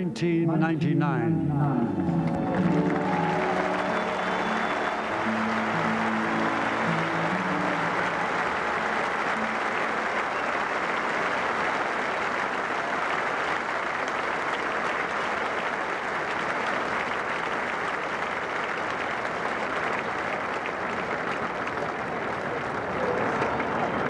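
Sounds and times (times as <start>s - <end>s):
stadium crowd applauding: 2.0s - 24.0s.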